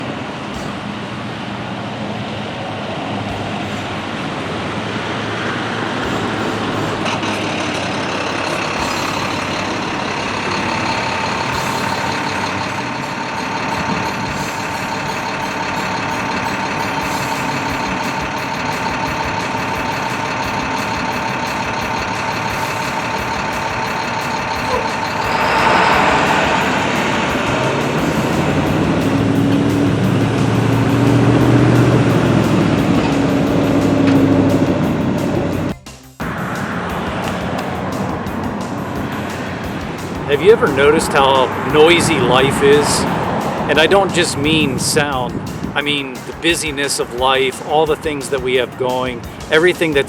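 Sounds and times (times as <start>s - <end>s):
steady pitched tone: 0.0s - 48.1s
heavy trucks: 0.0s - 50.0s
road traffic din: 0.0s - 50.0s.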